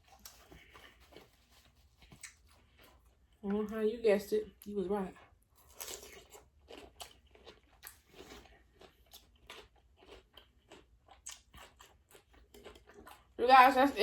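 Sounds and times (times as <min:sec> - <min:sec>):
person chewing food: 0:00.0 - 0:03.7, 0:04.5 - 0:13.4.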